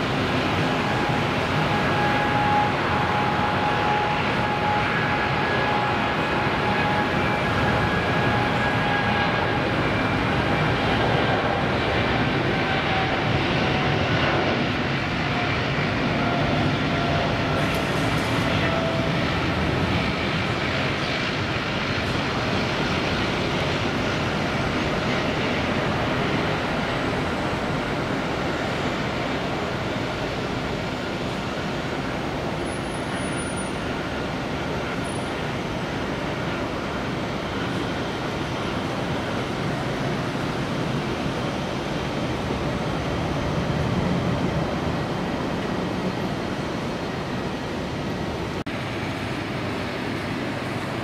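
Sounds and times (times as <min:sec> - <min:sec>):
jet engine whine: 0:00.0 - 0:51.0
jet engines roaring at takeoff: 0:00.0 - 0:51.0.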